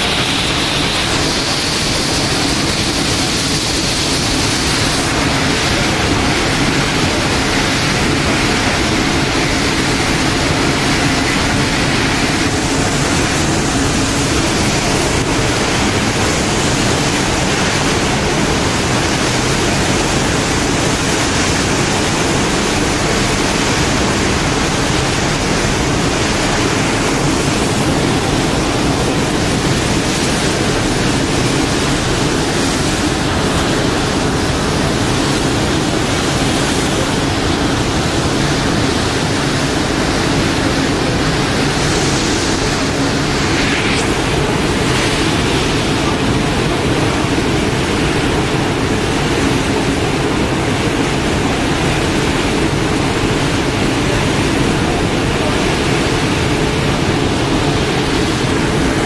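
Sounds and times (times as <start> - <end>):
churning white water rush: 0.0 - 59.0.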